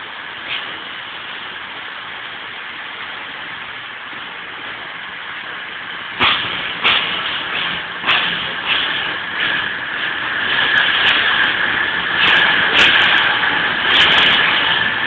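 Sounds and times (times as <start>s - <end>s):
diesel train engines droning: 0.0s - 15.0s
rush of train noise: 0.0s - 15.0s.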